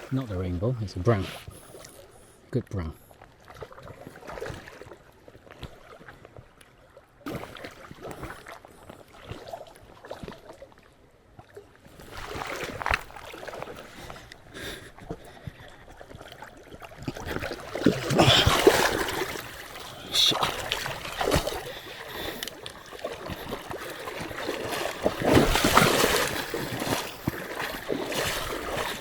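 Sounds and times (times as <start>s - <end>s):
creek water splashing: 2.8s - 29.0s.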